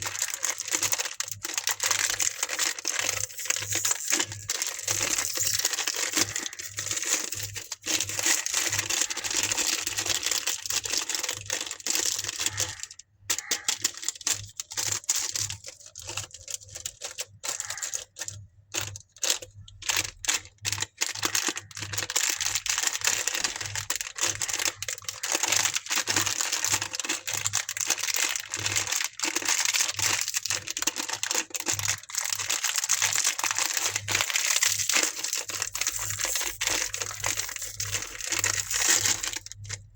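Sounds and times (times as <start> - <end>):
candy wrappers crinkling: 0.0 - 39.9.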